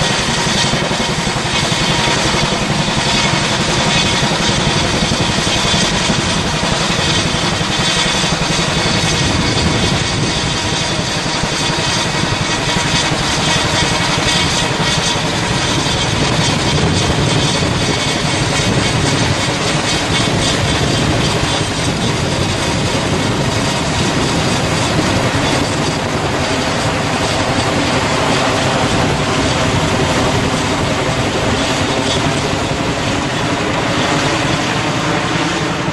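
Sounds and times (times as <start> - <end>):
helicopter rotors chopping: 0.0 - 35.9.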